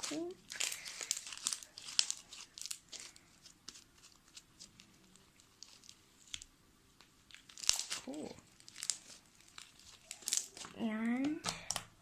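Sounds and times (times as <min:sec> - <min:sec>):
slime crackling and popping: 0:00.0 - 0:11.9.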